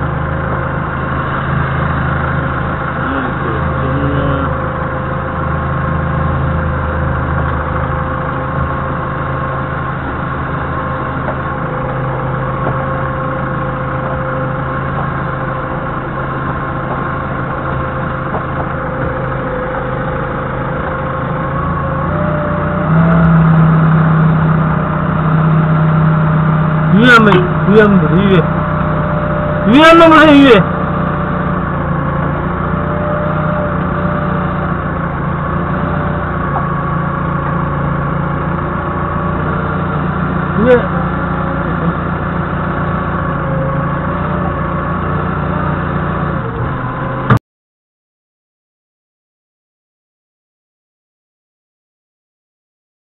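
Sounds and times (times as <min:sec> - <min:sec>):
forklift engine running: 0:00.0 - 0:47.4.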